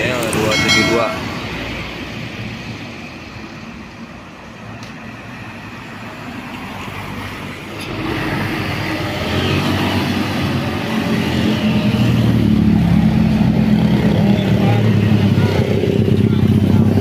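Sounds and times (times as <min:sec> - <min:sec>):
diesel engine hum: 0:00.0 - 0:17.0
road traffic: 0:00.0 - 0:17.0.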